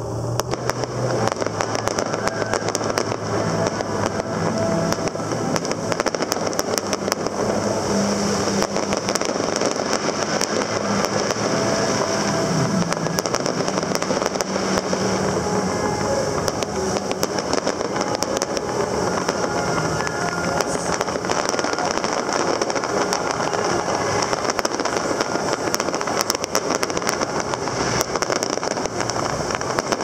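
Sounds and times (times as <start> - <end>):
fireworks bursting and crackling: 0.0 - 30.0
low engine drone: 0.0 - 30.0.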